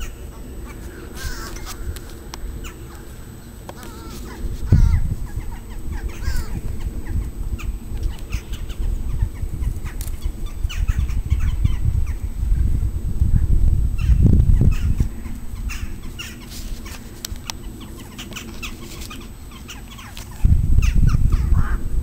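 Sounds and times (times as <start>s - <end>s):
birds chirping: 0.0s - 12.4s, 13.4s - 21.8s
uneven low rumble: 0.0s - 22.0s.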